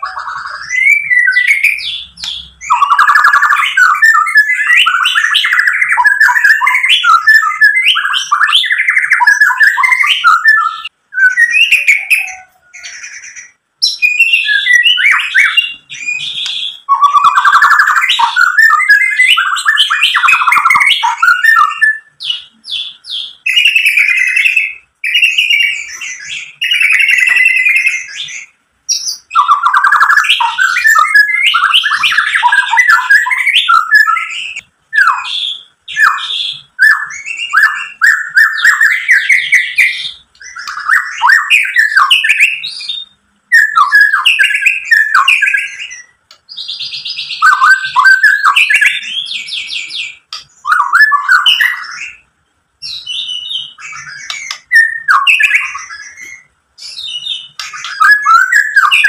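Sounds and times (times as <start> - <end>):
songbird whistling and chattering: 0.0 - 59.0.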